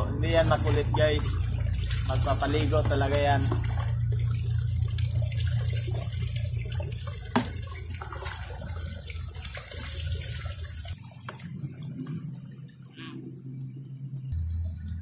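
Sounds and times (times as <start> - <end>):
water pouring and splashing: 0.0 - 13.5.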